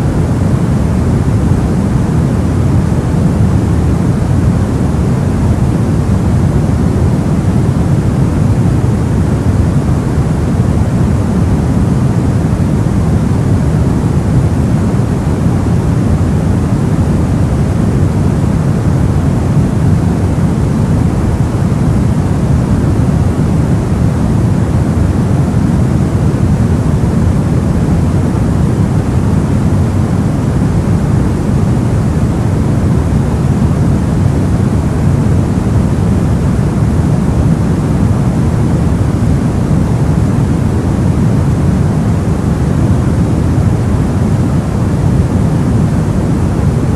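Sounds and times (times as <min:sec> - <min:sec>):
white noise hiss: 0:00.0 - 0:46.9.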